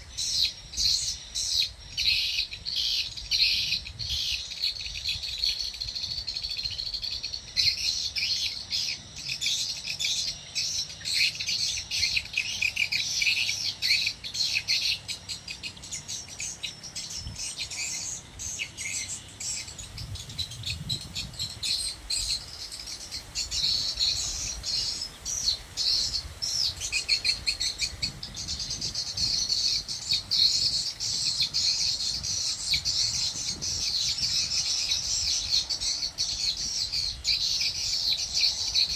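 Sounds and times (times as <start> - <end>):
swiftlets chirping and twittering: 0.0 - 38.9.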